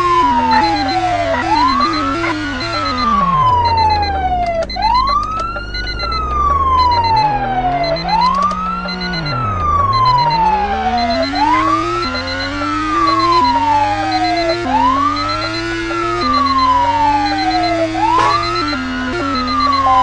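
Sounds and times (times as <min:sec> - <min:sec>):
police siren wailing: 0:00.0 - 0:20.0.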